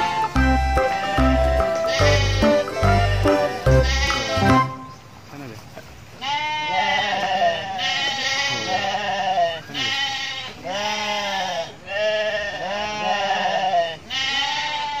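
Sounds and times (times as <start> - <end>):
sheep bleating: 0.8 - 4.7, 6.2 - 15.0.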